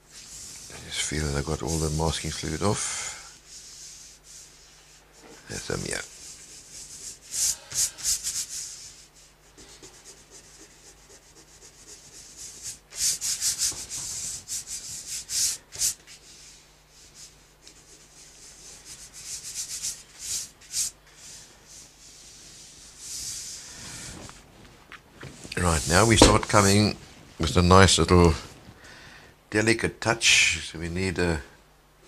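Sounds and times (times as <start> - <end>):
dry scratchy rubbing on paper: 0.1 - 24.5, 25.3 - 27.0.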